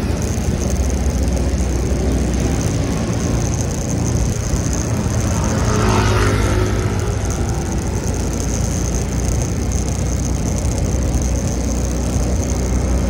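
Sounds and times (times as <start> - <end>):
road noise: 0.0 - 13.0
thin high whine: 0.0 - 13.0
wind rushing over microphone: 0.0 - 13.0.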